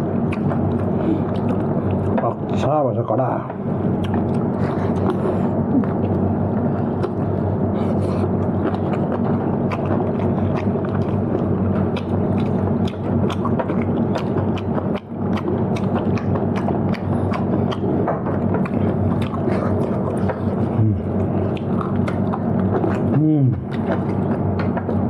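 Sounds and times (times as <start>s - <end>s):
chewing clicks: 0.1s - 2.5s, 4.0s - 5.2s, 8.2s - 25.0s.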